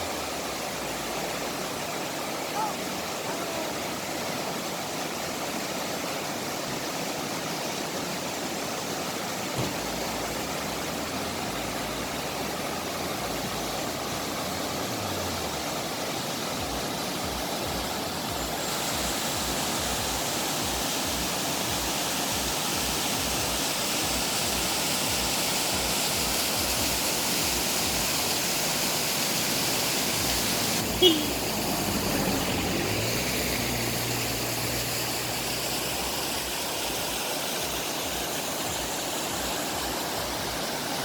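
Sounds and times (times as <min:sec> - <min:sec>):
waterfall rushing water: 0:00.0 - 0:41.0.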